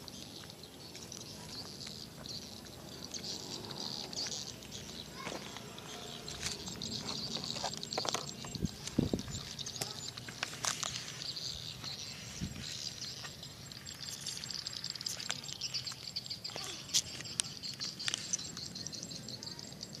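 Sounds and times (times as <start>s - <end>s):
high-pitched chirping: 0.0s - 20.0s.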